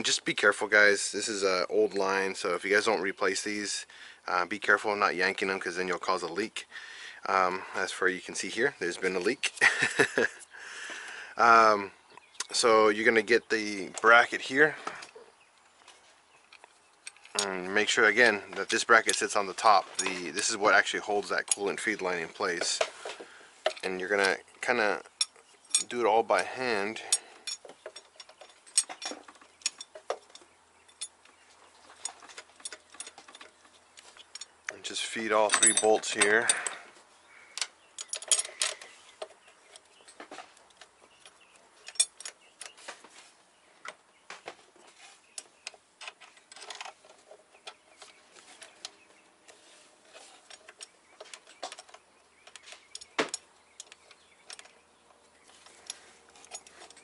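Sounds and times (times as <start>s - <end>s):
bolts and metal bracket clinking: 4.5s - 6.7s, 7.3s - 10.5s, 11.4s - 57.0s.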